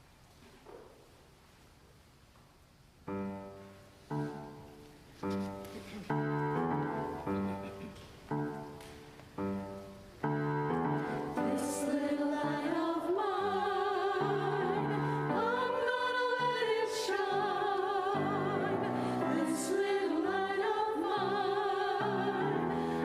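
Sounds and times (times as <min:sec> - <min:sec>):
piano music: 0:03.1 - 0:23.0.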